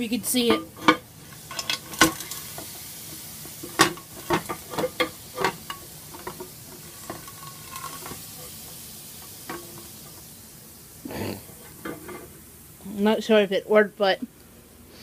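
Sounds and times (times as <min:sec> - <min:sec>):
ice melting in hot pan sizzling: 0:00.0 - 0:14.2.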